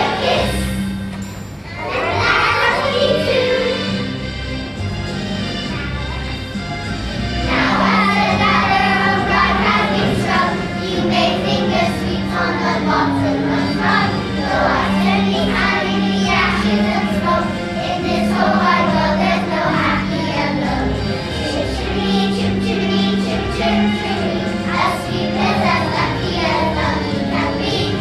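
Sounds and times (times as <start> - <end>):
children singing together: 0.0 - 0.9, 1.7 - 4.1, 7.5 - 28.0
musical backing track: 0.0 - 28.0.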